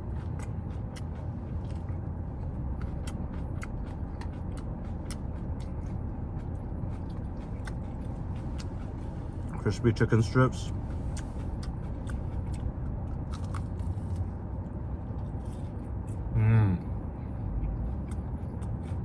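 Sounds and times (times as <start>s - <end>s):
low rumble: 0.0s - 18.8s
chewing crunchy salad: 0.0s - 19.0s.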